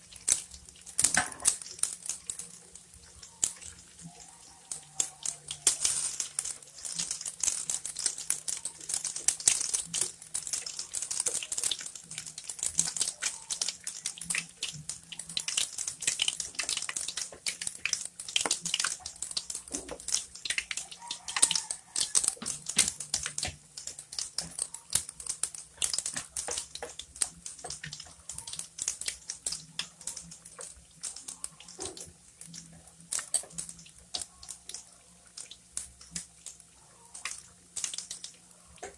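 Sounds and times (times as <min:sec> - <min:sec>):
meat deep-frying in hot oil: 0:00.0 - 0:38.9.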